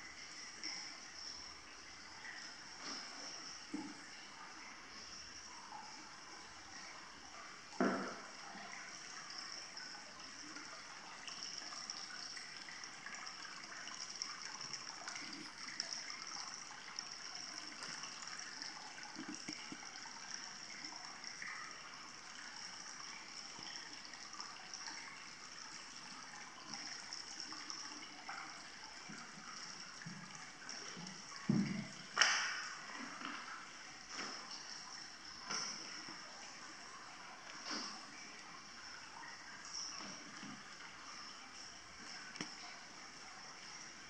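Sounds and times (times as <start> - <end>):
water trickling in wooden bath: 0.0 - 44.0.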